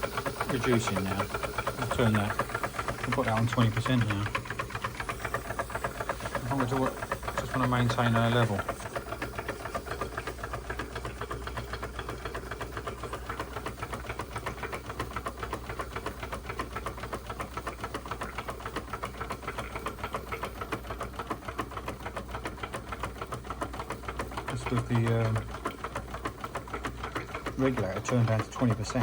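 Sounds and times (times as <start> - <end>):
model steam engine running: 0.0 - 29.0.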